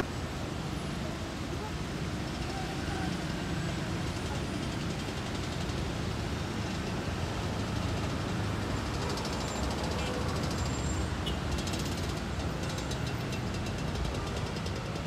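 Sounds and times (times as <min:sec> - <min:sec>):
coach engine rumbling: 0:00.0 - 0:15.0.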